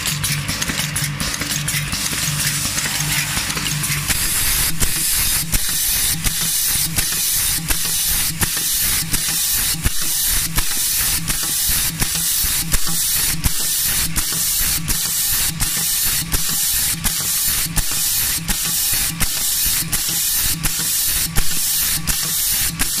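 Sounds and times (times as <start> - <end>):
machine hissing: 0.0 - 23.0
mechanical clicking: 0.0 - 23.0.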